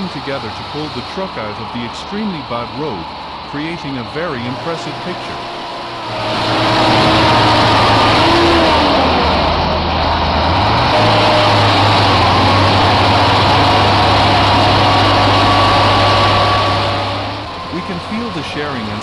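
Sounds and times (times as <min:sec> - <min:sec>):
heavy truck engines under load: 0:00.0 - 0:19.0.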